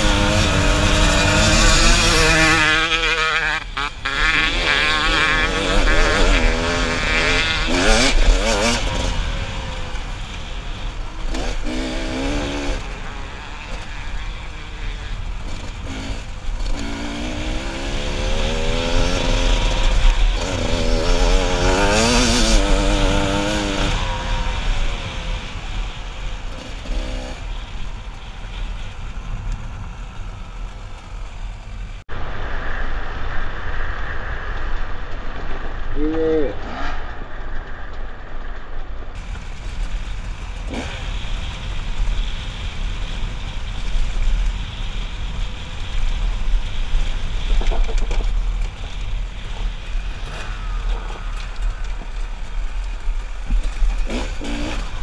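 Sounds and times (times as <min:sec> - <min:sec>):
dirt bike engine revving: 0:00.0 - 0:31.4, 0:39.2 - 0:55.0
wind rush on microphone: 0:04.8 - 0:55.0.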